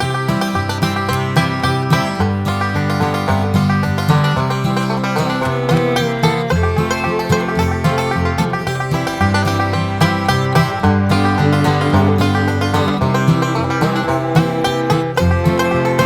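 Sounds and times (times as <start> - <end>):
upbeat bluegrass tune: 0.0 - 16.0.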